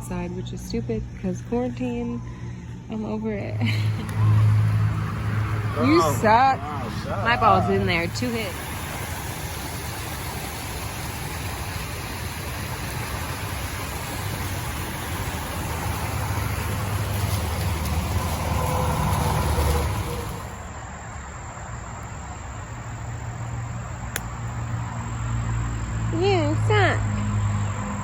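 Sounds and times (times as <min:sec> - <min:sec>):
motor vehicle rumble and hiss: 0:00.0 - 0:28.0.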